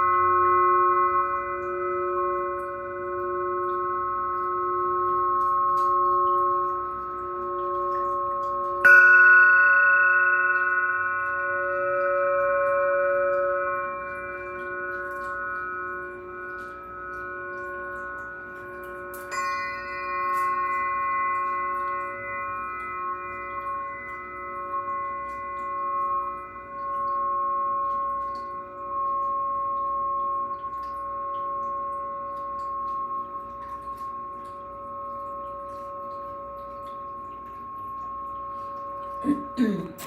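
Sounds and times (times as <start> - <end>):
glass singing bowls ringing: 0.0 - 40.0.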